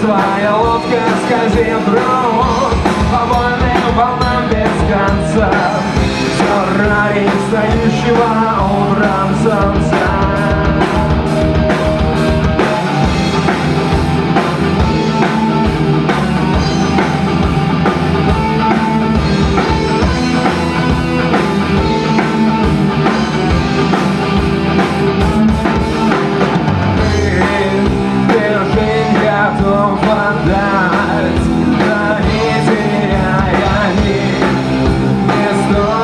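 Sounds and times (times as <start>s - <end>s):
bass guitar: 0.0s - 36.0s
drum kit steady beat: 0.0s - 36.0s
electric guitars: 0.0s - 36.0s.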